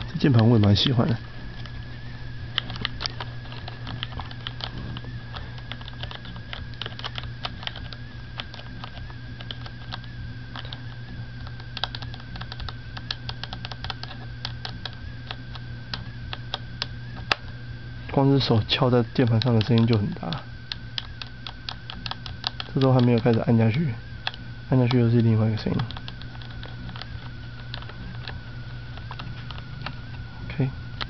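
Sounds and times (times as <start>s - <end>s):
keyboard typing: 0.0s - 17.5s, 18.5s - 30.2s
faint high whine: 0.0s - 31.0s
steady low hum: 0.0s - 31.0s.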